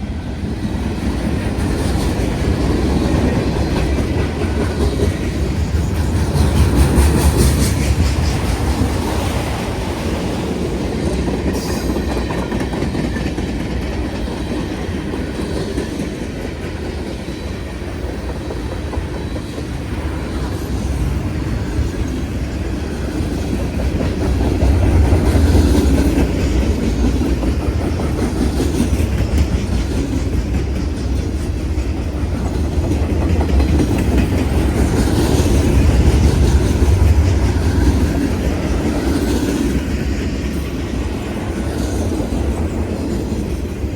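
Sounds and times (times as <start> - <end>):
train wheels clattering over rails: 0.0 - 43.9.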